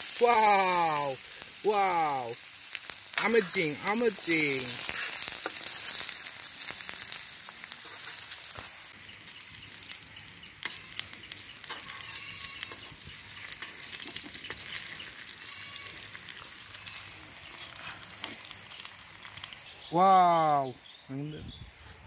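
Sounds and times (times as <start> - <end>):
food sizzling in hot oil: 0.0 - 19.7
sharp crackles: 0.0 - 19.7.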